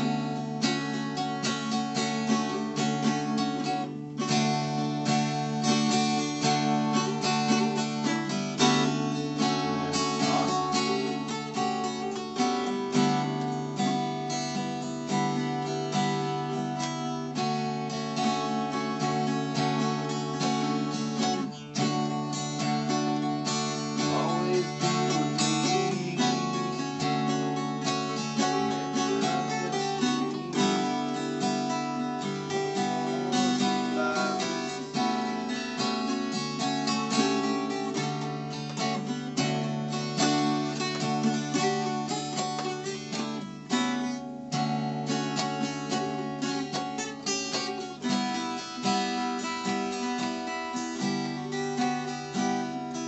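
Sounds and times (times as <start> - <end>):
acoustic guitars strumming chords: 0.0 - 53.0.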